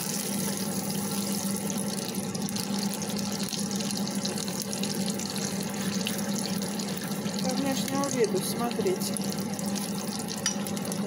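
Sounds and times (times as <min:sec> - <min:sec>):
cutlets sizzling in hot oil: 0:00.0 - 0:11.0.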